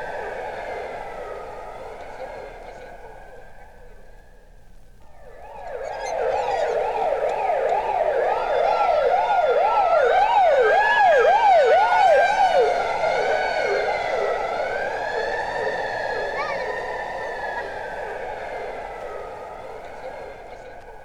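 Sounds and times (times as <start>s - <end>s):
emergency sirens wailing: 0.0s - 21.0s.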